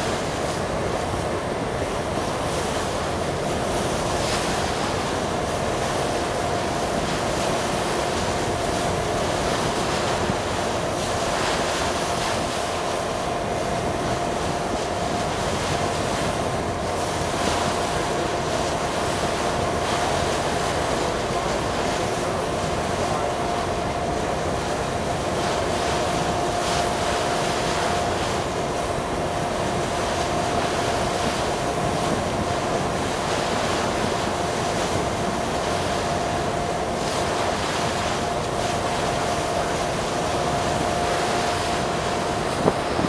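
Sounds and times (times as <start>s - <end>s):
rush of wind and water: 0.0s - 43.0s.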